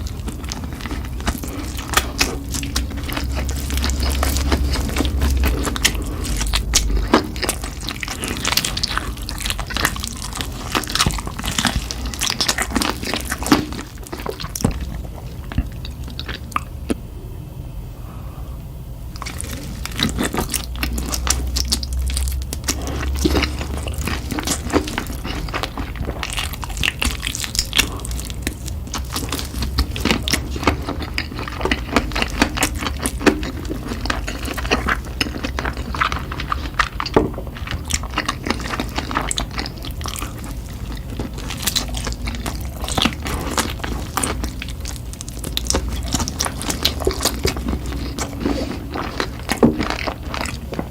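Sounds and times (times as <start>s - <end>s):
crunching and chewing: 0.0s - 17.0s, 19.1s - 50.9s
low steady hum: 0.0s - 50.9s.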